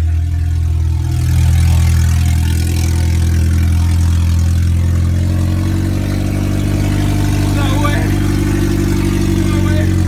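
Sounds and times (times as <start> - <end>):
car engine running loud: 0.0 - 10.0.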